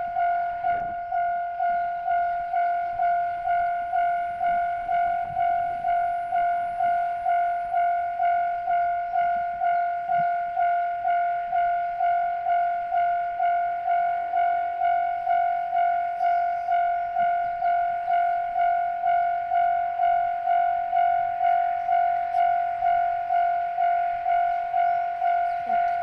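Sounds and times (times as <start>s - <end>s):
level crossing bell ringing: 0.0s - 26.0s.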